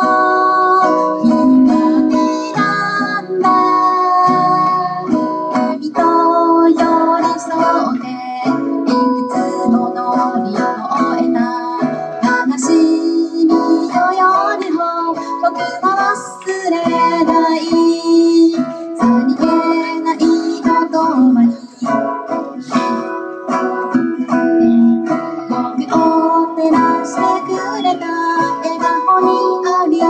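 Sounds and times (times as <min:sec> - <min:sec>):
acoustic guitar strumming: 0:00.0 - 0:30.0
person singing: 0:00.0 - 0:30.0.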